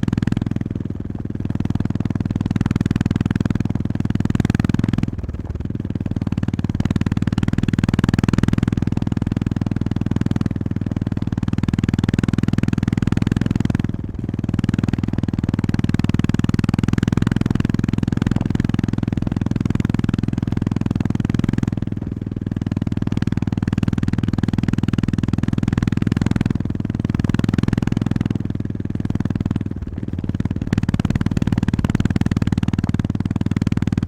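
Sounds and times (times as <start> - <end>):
motorcycle engine throbbing: 0.0 - 34.0.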